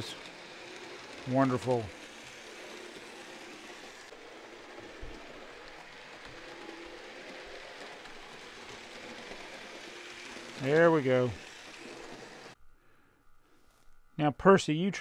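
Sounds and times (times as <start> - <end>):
model train motors whirring: 0.0 - 12.6.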